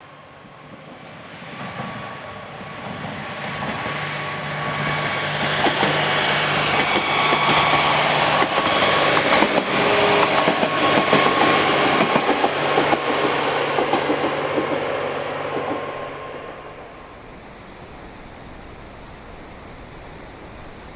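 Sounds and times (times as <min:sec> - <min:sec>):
diesel railcar engine drone: 0:00.0 - 0:20.9
train wheels clattering over rail joints: 0:02.6 - 0:20.9.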